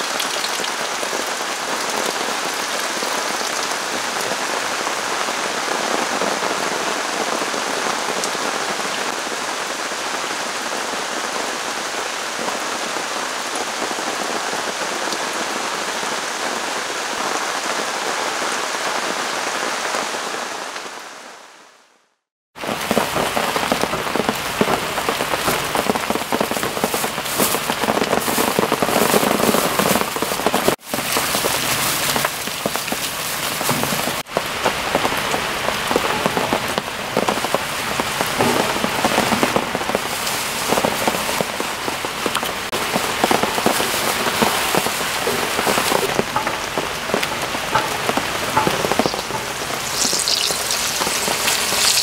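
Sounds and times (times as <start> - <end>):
heavy rain falling: 0.0 - 21.7, 22.6 - 52.0.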